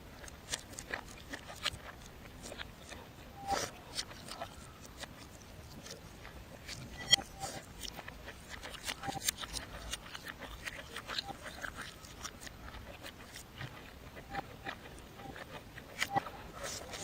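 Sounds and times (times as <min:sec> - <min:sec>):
chewing crunches and smacks: 0:00.0 - 0:17.0.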